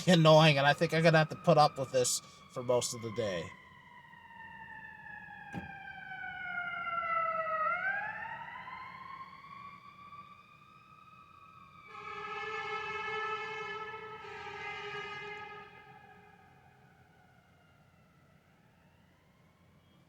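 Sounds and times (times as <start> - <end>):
electronic siren-like wail: 0.0 - 17.7.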